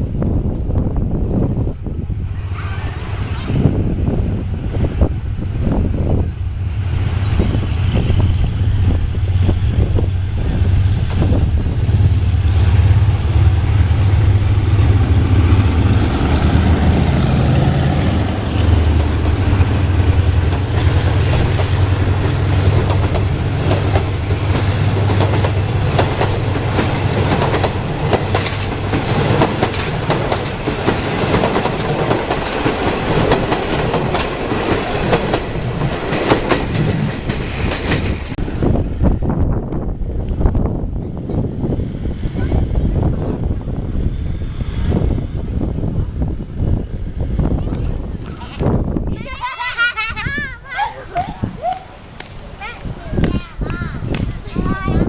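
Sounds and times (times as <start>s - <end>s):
train rumbling on track: 0.0s - 55.0s
wheels clicking over rail joints: 4.8s - 38.4s, 39.7s - 55.0s.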